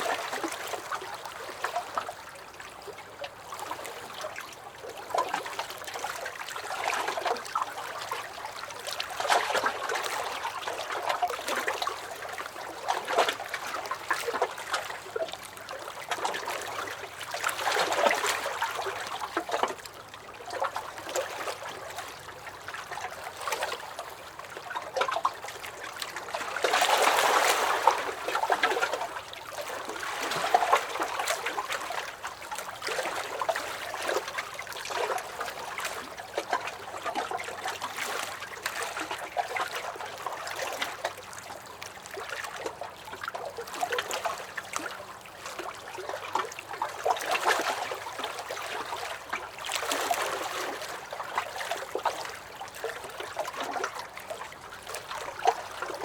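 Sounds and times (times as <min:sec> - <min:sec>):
lake waves lapping against dock: 0:00.0 - 0:56.0.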